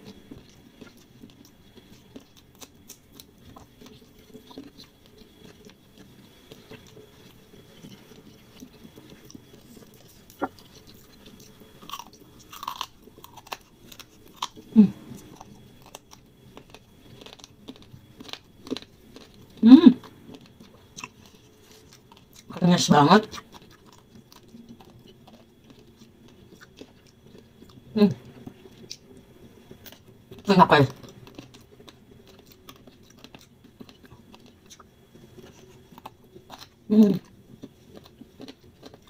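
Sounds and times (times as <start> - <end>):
person chewing noodles: 0.0 - 22.6, 23.3 - 39.0.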